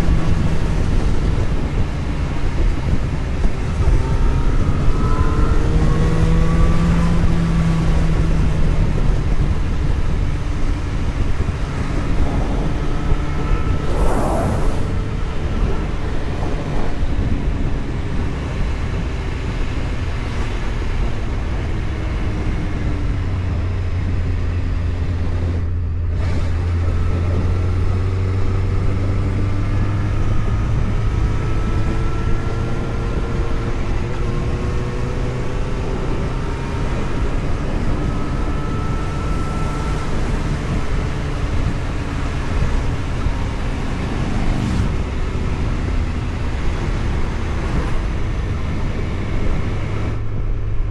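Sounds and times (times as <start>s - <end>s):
road and wind noise: 0.0s - 50.9s
vehicle engine running: 0.0s - 50.9s.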